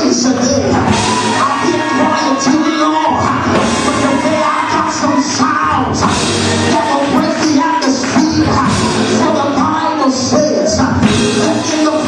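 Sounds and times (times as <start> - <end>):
live rock praise music: 0.0 - 12.0.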